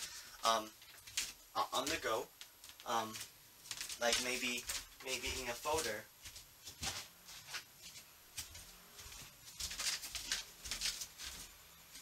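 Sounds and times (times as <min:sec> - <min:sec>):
plastic sleeve rustling: 0:00.0 - 0:12.0.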